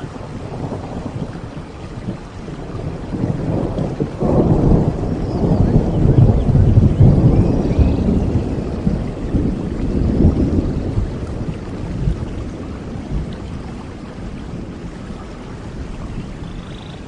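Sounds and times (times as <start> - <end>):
thunder rumbling: 0.0 - 16.7
steady rain: 0.0 - 17.0.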